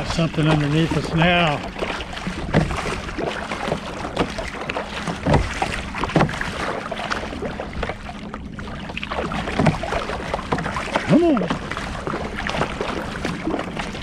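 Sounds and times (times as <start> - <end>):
paddle splashing in water: 0.0 - 14.0
water noise: 0.0 - 14.0.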